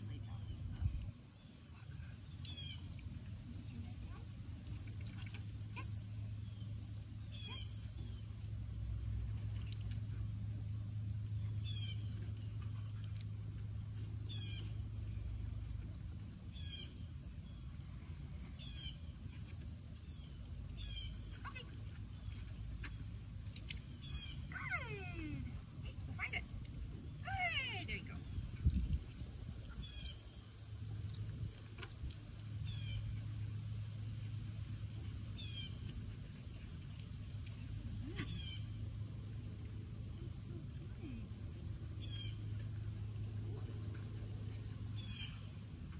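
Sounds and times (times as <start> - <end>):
steady low hum: 0.0 - 45.9
steady low rumble: 0.0 - 45.9.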